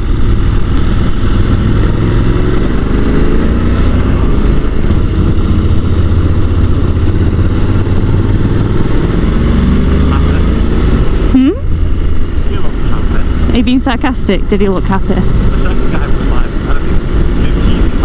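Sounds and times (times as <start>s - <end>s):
motorcycle engine running: 0.0s - 18.0s
riding wind rushing: 0.0s - 18.0s.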